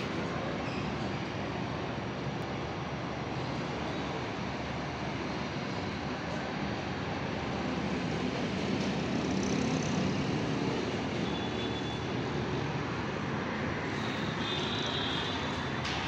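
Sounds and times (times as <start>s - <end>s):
distant traffic: 0.0s - 16.0s.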